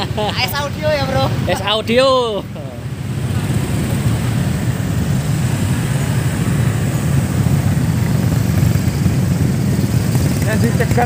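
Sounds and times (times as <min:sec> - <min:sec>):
many motorcycle engines rumbling: 0:00.0 - 0:11.0.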